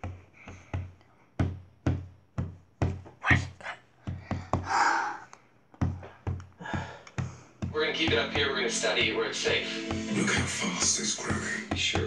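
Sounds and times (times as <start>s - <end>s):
hands drumming a beat: 0.0s - 4.9s, 5.8s - 12.0s.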